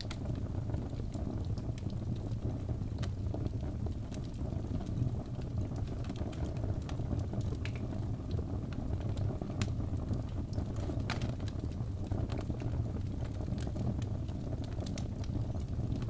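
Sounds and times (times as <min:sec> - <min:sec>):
burning wood crackling and popping: 0:00.0 - 0:16.0
low rumble of flame: 0:00.0 - 0:16.0.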